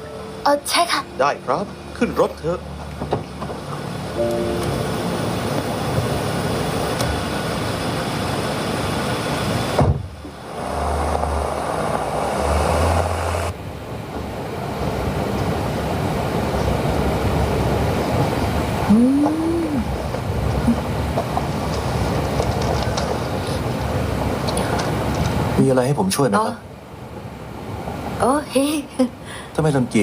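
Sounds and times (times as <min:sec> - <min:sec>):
vehicle engine and road rumble: 0:00.0 - 0:04.2, 0:04.9 - 0:25.7.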